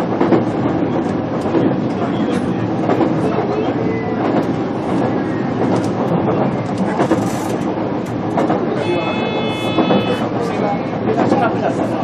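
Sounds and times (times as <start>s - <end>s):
rail joint clicks: 0.0s - 11.9s
train wheels rumbling on rail: 0.0s - 12.0s.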